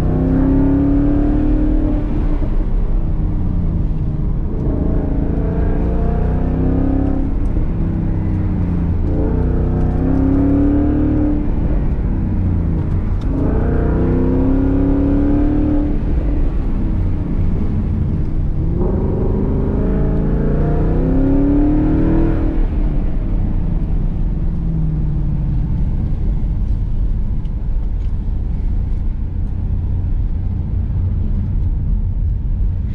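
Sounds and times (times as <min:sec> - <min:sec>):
car engine revving: 0:00.0 - 0:27.2
engine low steady rumble: 0:00.0 - 0:32.9.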